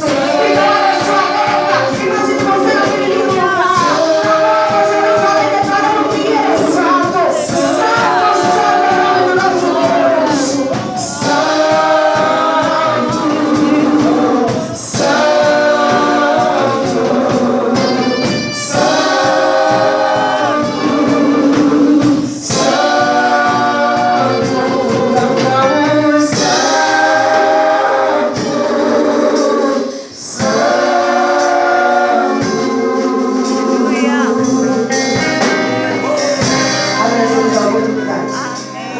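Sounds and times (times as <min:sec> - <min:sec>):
choir singing: 0:00.0 - 0:38.9
musical accompaniment: 0:00.0 - 0:38.9.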